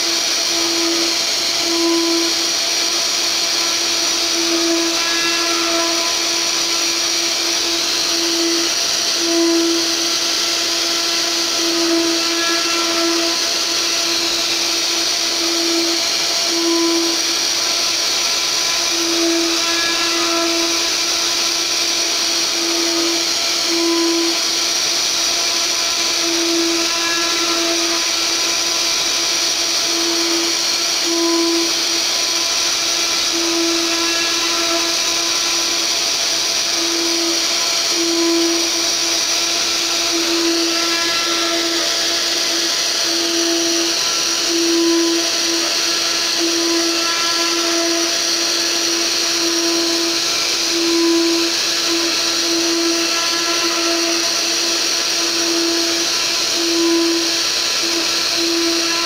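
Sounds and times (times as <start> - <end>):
cutter tone in wood: 0.0 - 59.0
router spindle whining: 0.0 - 59.0.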